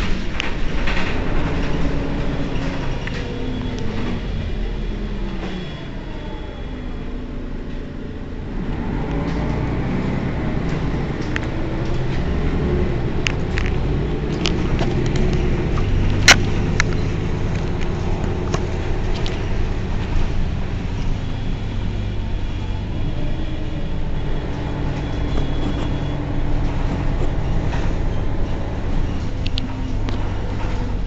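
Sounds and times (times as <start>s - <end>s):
bus diesel engine idling: 0.0s - 31.0s.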